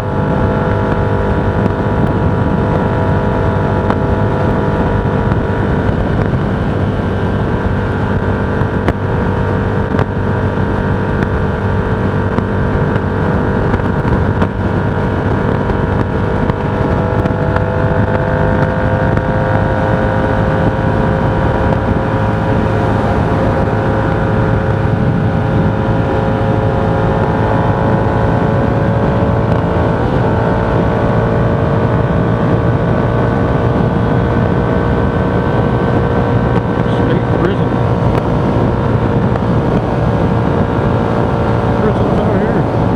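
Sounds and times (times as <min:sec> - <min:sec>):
vehicle motor and road noise: 0:00.0 - 0:42.9
wind noise: 0:00.0 - 0:42.9.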